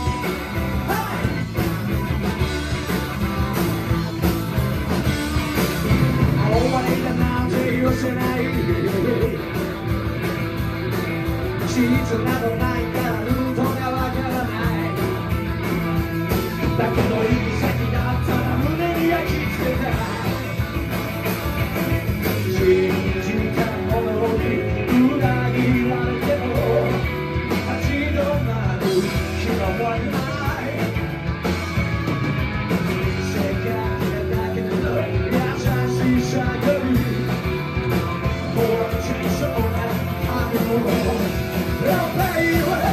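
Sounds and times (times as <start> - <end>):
electric guitars: 0.0 - 42.9
upright double bass: 0.0 - 42.9.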